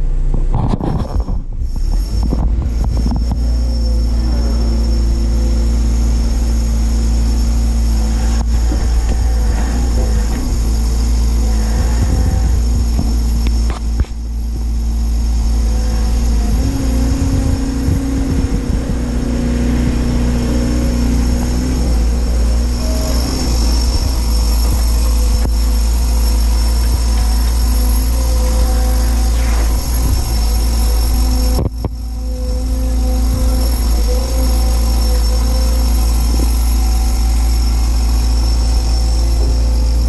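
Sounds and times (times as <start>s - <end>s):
excavator diesel engine rumbling: 0.0s - 40.0s
hydraulic whine: 0.0s - 40.0s.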